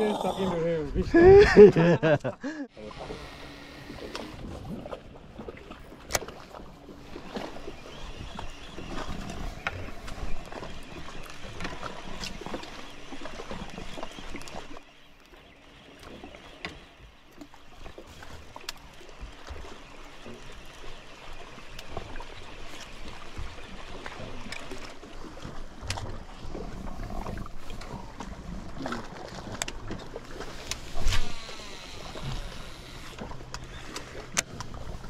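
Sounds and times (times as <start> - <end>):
water lapping against boat hull: 0.0 - 35.0.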